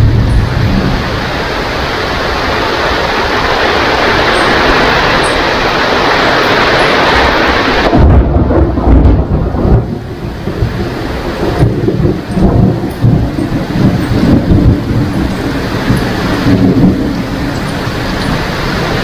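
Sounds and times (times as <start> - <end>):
deep thunder rumbling: 0.0 - 19.0
rain falling steadily: 0.0 - 19.0.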